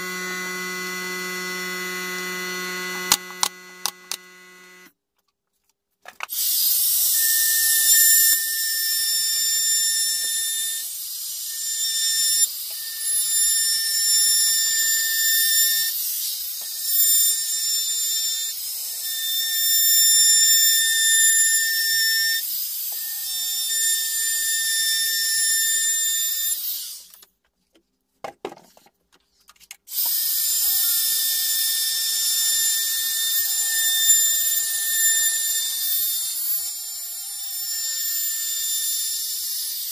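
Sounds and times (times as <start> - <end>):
electric router high-pitched whine: 0.0 - 4.9, 6.3 - 27.1, 29.9 - 39.9.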